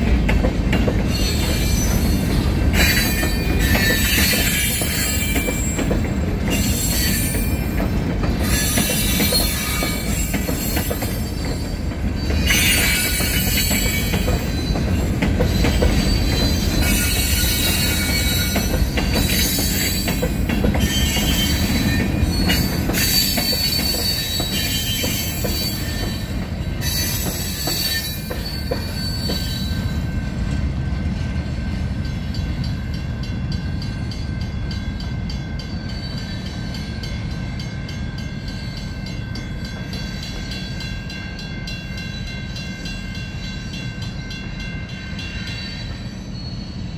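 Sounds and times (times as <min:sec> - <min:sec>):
train rumbling: 0:00.0 - 0:46.9
train wheels squealing: 0:00.8 - 0:46.9.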